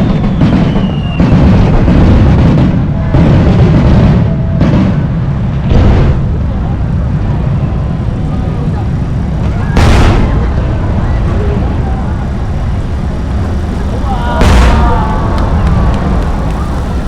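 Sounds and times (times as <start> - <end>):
fireworks booming: 0.0 - 17.0
low rumble of explosions: 0.0 - 17.0.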